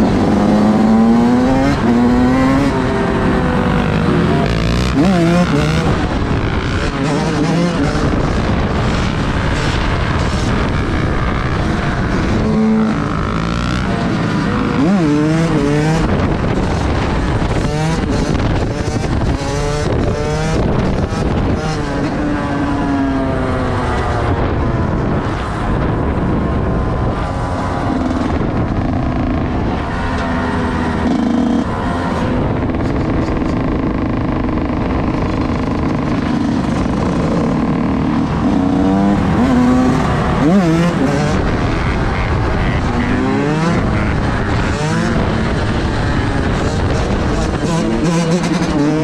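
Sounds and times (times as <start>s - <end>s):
vehicle engines revving: 0.0s - 49.0s.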